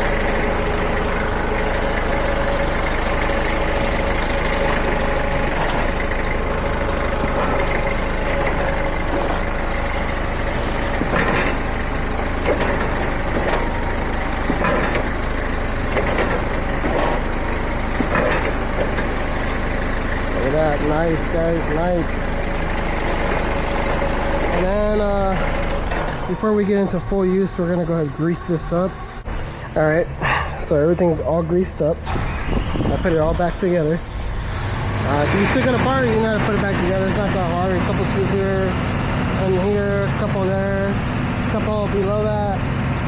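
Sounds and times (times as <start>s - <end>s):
forklift engine idling: 0.0s - 43.0s.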